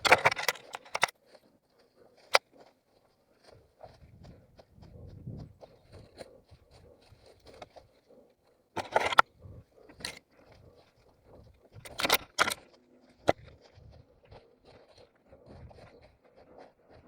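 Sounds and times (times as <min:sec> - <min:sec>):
footsteps through forest: 0:00.0 - 0:17.0
rustling and scraping: 0:00.0 - 0:17.0.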